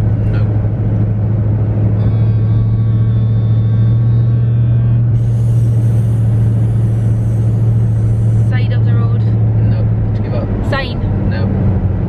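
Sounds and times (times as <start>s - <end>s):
road and wind hiss: 0.0s - 4.2s, 5.0s - 12.0s
car cabin drone: 0.0s - 12.0s.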